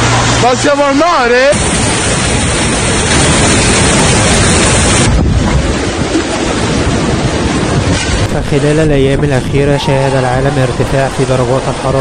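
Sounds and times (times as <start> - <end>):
floodwater rushing: 0.0 - 12.0
wind buffeting microphone: 1.5 - 12.0.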